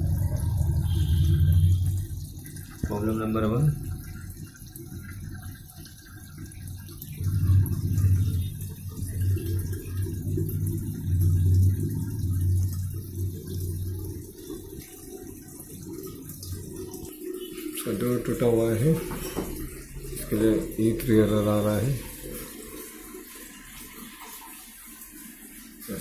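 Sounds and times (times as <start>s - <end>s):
low steady hum: 0.0s - 22.4s
washing machine running: 0.0s - 26.0s.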